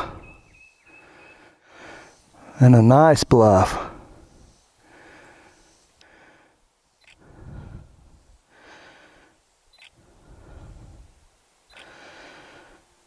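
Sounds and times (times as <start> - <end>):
soft breathing: 0.0 - 2.6, 3.7 - 13.0.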